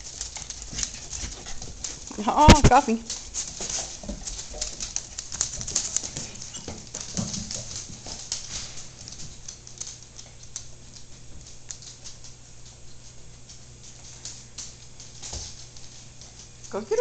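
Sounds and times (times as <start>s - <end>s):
dog claws scrabbling on wood floor: 0.0s - 16.7s.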